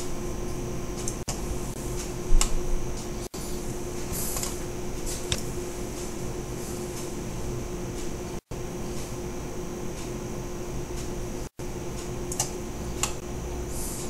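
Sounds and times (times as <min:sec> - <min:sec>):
computer fan humming: 0:00.0 - 0:14.0.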